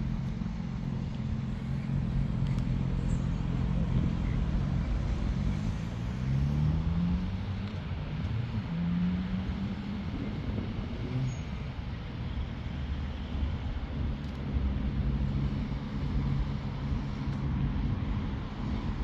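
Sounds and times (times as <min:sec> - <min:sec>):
road traffic passing: 0:00.0 - 0:19.0
vehicle engine accelerating: 0:00.0 - 0:19.0.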